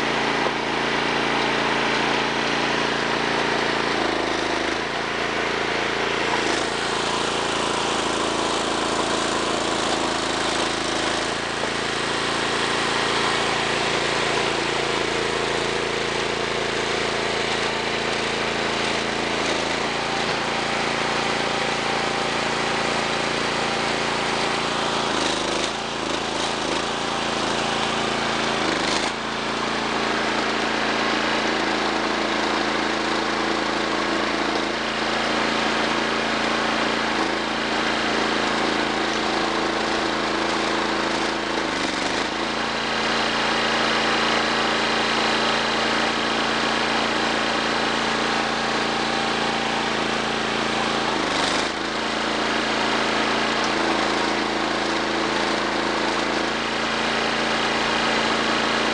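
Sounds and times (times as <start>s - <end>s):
engine running steadily: 0.0s - 58.9s.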